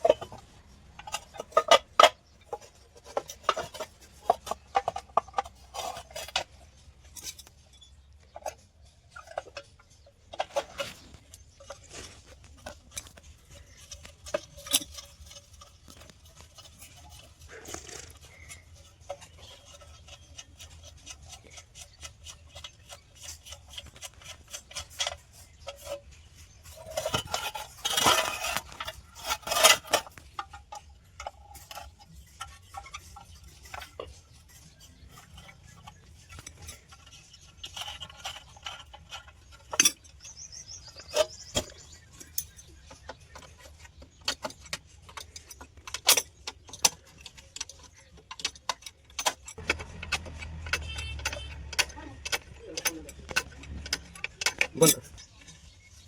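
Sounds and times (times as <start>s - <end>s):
steel clinking and clanking: 0.0s - 56.0s.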